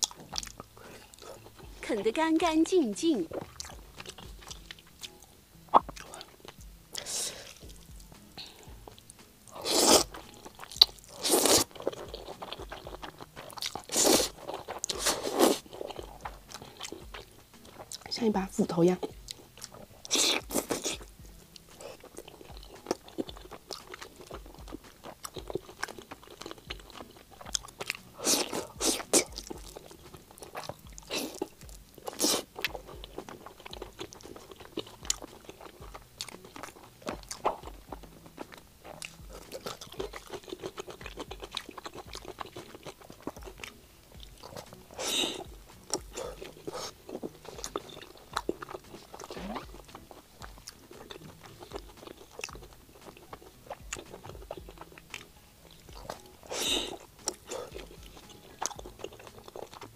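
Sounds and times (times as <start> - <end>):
wet mouth sounds: 0.0 - 2.1, 3.1 - 59.9
close-miked chewing and biting: 0.0 - 59.9
crunchy bites: 3.3 - 18.1, 19.0 - 59.9.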